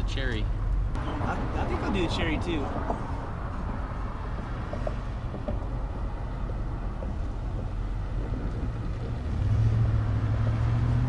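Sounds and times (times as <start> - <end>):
road traffic: 0.0 - 11.0
vehicle engine hum: 0.0 - 11.0
wind: 0.0 - 11.0.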